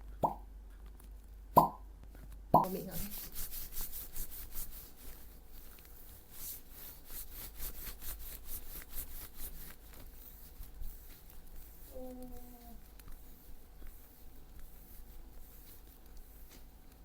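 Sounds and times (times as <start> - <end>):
hands rubbing skin: 2.6 - 17.0.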